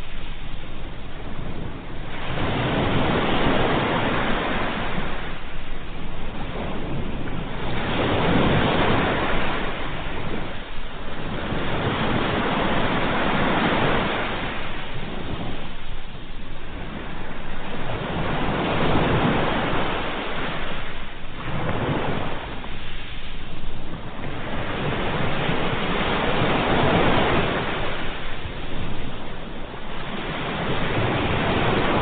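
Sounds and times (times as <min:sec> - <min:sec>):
sea waves breaking: 0:00.0 - 0:32.0.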